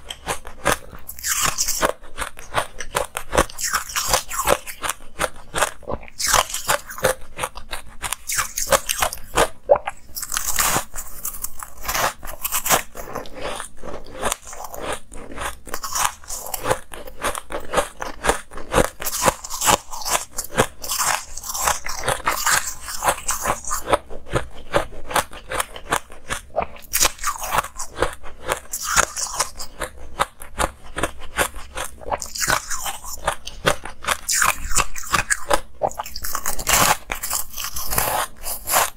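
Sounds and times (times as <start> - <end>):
crunching and chewing shaved ice: 0.0 - 38.9.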